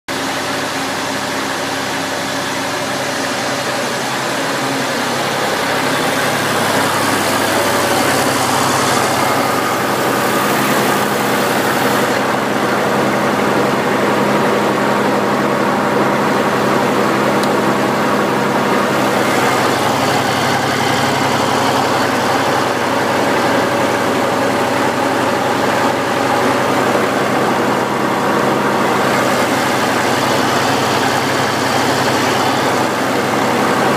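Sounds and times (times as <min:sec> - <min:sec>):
tractor engine idling: 0:00.1 - 0:33.9.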